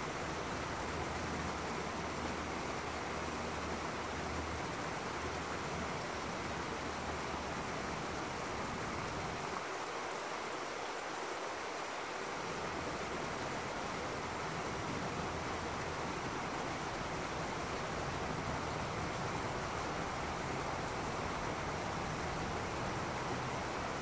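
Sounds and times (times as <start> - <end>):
water rushing over waterfall: 0.0 - 24.0.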